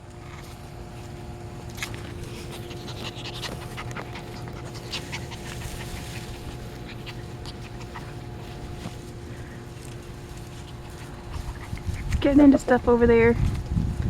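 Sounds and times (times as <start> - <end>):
steady low hum: 0.0 - 14.0
puppies panting: 0.9 - 12.8.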